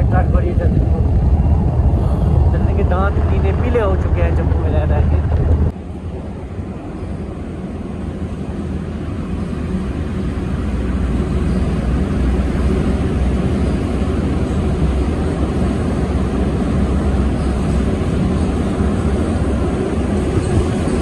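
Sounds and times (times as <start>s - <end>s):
scooter road rumble: 0.0s - 21.0s
wind rush: 0.0s - 21.0s.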